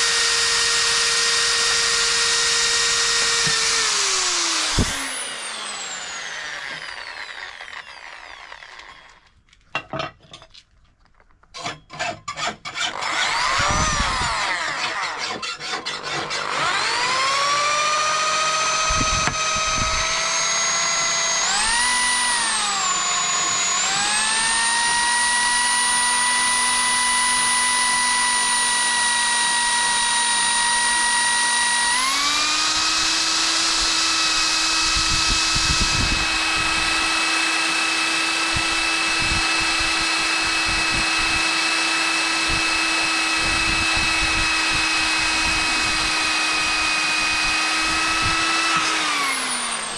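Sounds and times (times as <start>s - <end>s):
electric drill boring into metal: 0.0s - 9.4s, 11.6s - 49.9s.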